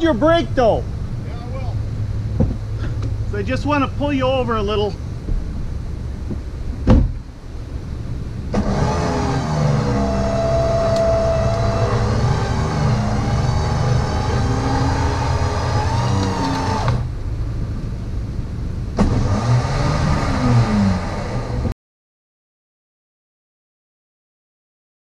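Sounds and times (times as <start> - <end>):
car engine revving under load: 0.8 - 21.7.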